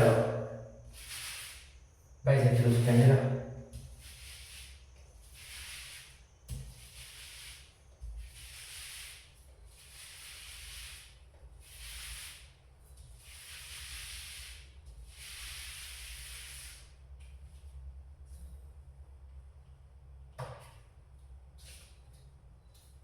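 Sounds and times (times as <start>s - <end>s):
paint strokes on wall: 0.0s - 18.6s, 21.5s - 23.0s.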